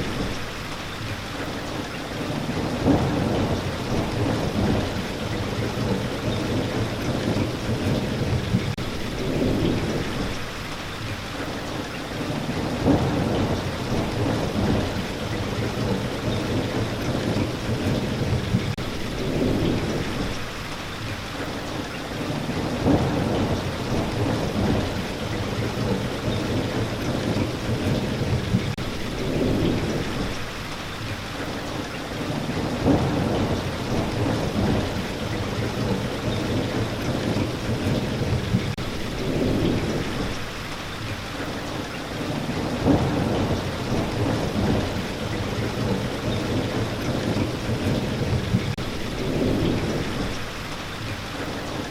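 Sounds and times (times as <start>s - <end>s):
rolling thunder rumbles: 0.0s - 11.1s, 12.2s - 21.1s, 22.1s - 31.2s, 32.1s - 41.1s, 42.1s - 51.6s
steady rain falling: 0.0s - 51.9s.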